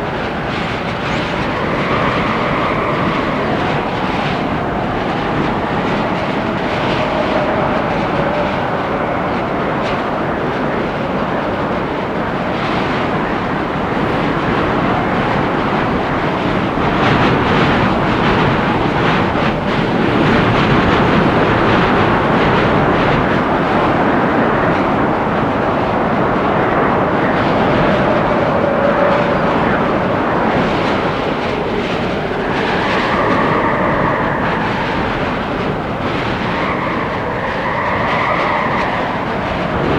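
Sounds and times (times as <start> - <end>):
howling wind: 0.0 - 39.9
wind rushing through trees: 0.0 - 39.9.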